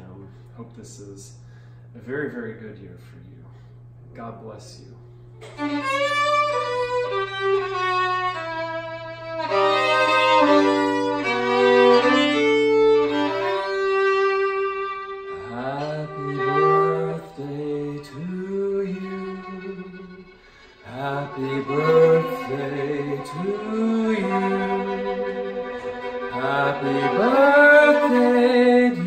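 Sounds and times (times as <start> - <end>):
solo violin melody: 5.5 - 29.0
lower sliding instrument line: 5.6 - 29.0.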